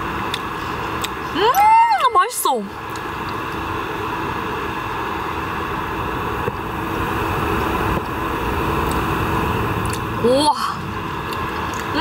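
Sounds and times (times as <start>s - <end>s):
faint hum: 0.0s - 12.0s
fan heater whirring: 0.0s - 12.0s.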